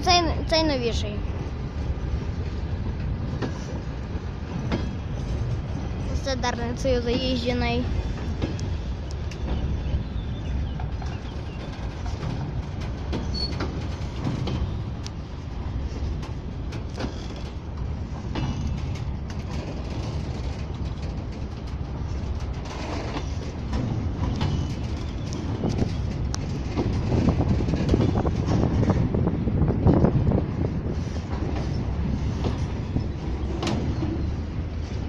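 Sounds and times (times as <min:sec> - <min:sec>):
train wheels rumbling on rails: 0:00.0 - 0:35.0
wheels and couplings clanking: 0:00.0 - 0:35.0.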